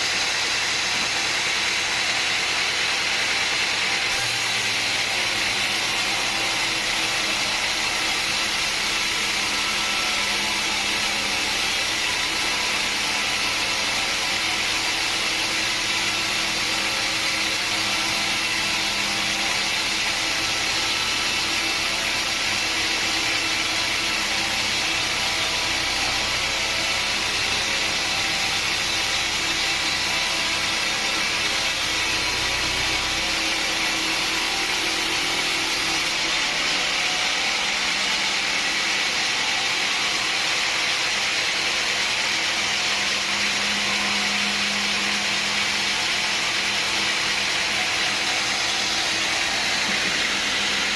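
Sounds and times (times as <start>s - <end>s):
sawmill machinery hissing: 0.0s - 50.9s.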